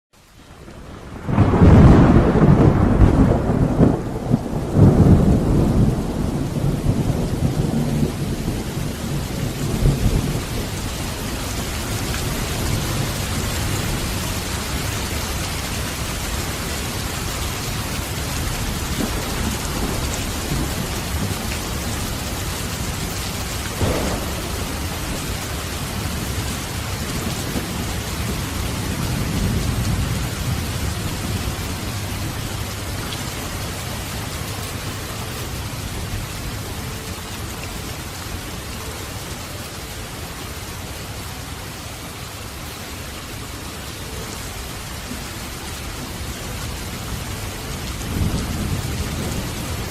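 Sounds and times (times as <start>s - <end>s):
heavy rain: 0.2s - 49.9s
thunder rumbling: 0.6s - 38.2s, 46.2s - 49.9s.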